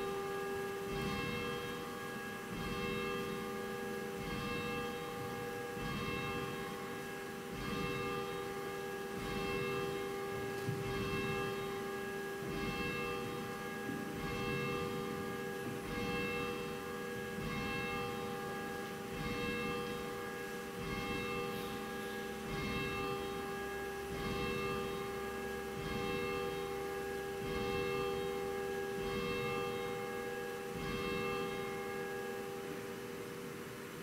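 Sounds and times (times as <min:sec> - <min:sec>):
church bell ringing: 0:00.0 - 0:34.0.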